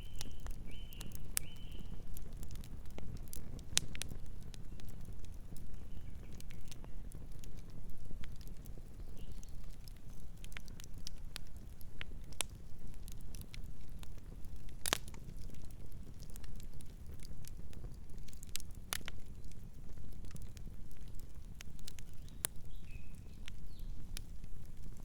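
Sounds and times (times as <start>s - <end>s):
burning wood crackling and popping: 0.0s - 25.0s
low rumble of flames: 0.0s - 25.0s.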